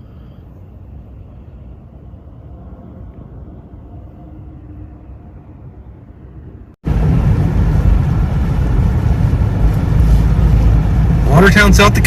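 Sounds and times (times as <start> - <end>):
muffled blizzard wind rumble: 0.0 - 12.0.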